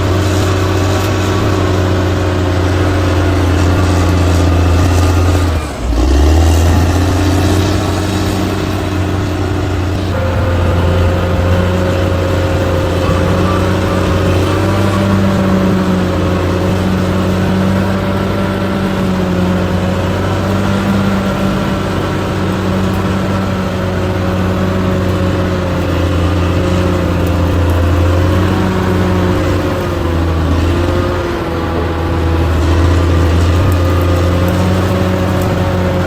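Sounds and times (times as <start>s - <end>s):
earthmoving machine diesel engine: 0.0s - 36.0s.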